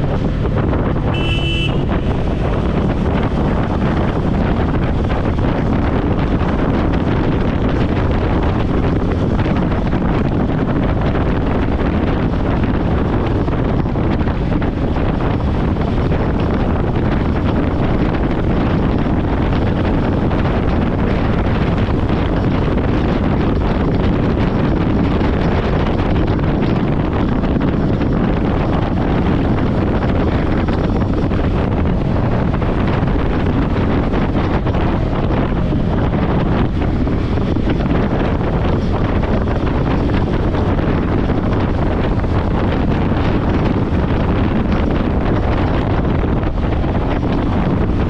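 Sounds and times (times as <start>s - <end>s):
motorcycle engine: 0.0s - 48.0s
road noise: 0.0s - 48.0s
wind rushing on microphone: 0.0s - 48.0s.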